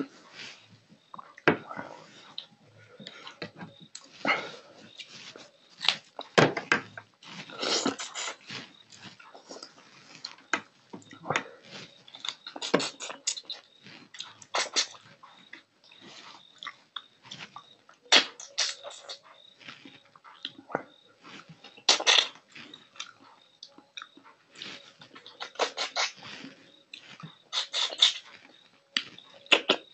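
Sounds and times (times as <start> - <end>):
man chewing and smacking lips: 0.0 - 29.9.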